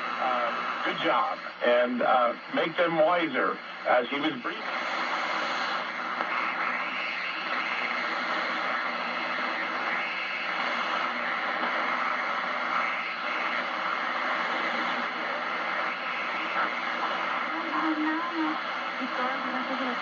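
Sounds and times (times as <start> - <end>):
radio static and hiss: 0.0 - 20.0.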